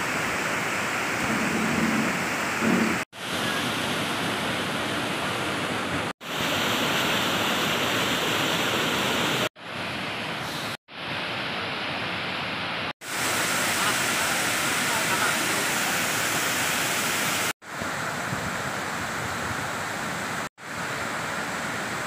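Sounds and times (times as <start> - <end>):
waterfall rushing over rock: 0.0 - 9.5, 13.0 - 22.0.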